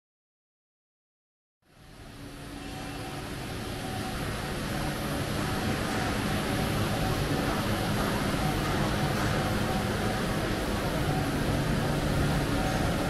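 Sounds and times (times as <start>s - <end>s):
faint hum tones: 1.6s - 13.0s
industrial machinery drone: 1.6s - 13.0s.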